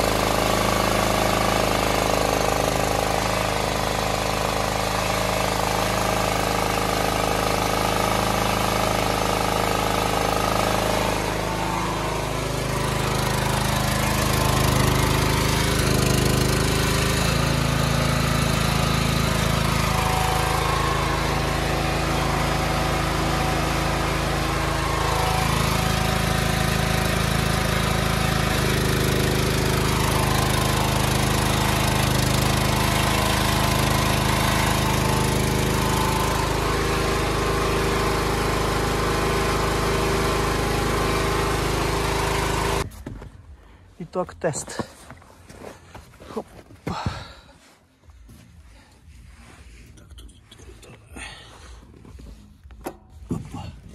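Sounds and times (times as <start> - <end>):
small generator engine running: 0.0 - 45.2, 45.9 - 53.9.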